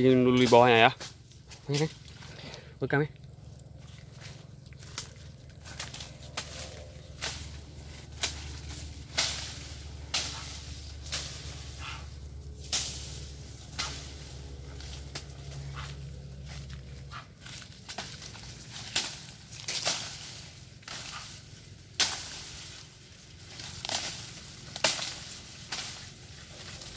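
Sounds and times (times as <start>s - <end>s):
dry leaves crackling: 0.0s - 26.9s
steady low rumble: 0.0s - 26.9s
sharp strikes through brush: 4.8s - 26.9s.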